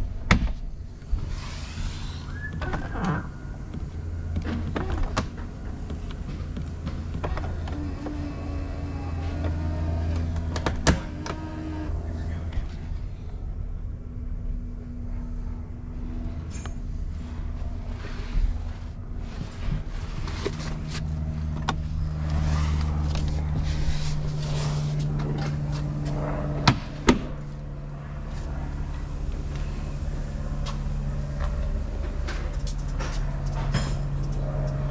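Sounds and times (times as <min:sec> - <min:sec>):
diesel engine idling: 0:02.1 - 0:26.6, 0:27.4 - 0:34.9.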